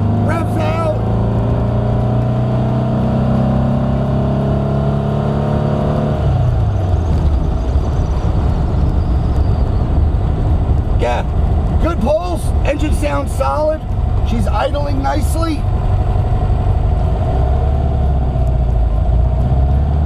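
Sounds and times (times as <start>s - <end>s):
car engine from inside cabin: 0.0s - 20.0s.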